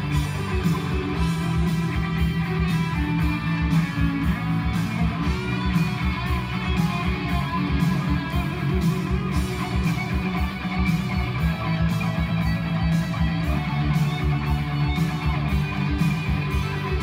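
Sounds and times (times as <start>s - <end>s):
music with deep beat from vinyl: 0.0s - 17.0s.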